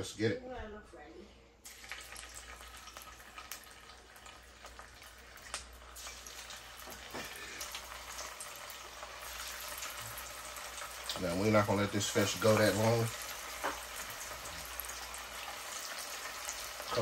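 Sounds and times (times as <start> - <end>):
fish frying in hot oil: 1.6 - 17.0
oil popping and crackling: 1.6 - 17.0.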